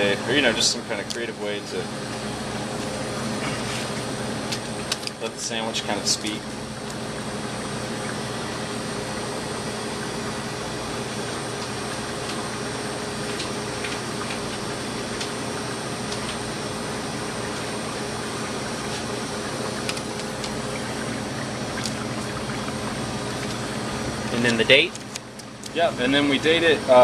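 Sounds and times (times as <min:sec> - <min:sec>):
machinery humming and hissing: 0:00.0 - 0:27.0.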